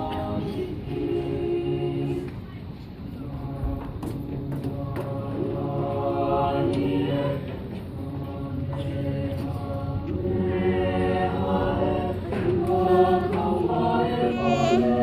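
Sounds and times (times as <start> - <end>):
choir singing an anthem: 0.0 - 15.0.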